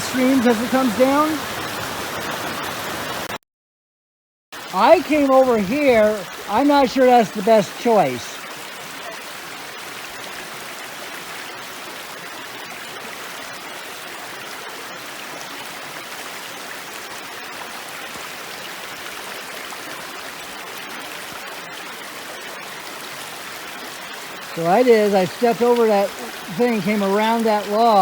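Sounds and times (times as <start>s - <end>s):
mountain river rushing: 0.0s - 3.4s, 4.6s - 28.0s.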